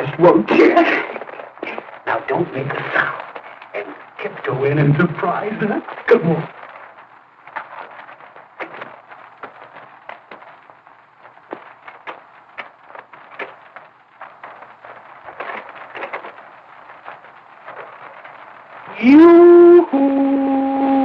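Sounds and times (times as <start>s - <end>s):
film soundtrack hiss: 0.0s - 21.0s.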